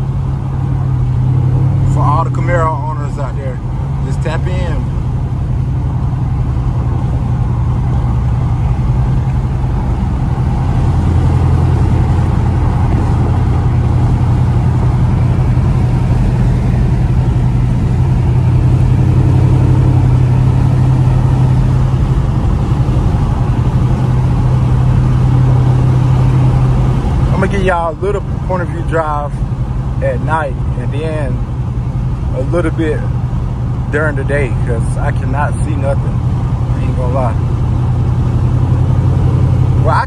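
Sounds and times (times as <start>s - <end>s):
car engine and exhaust drone: 0.0s - 40.0s.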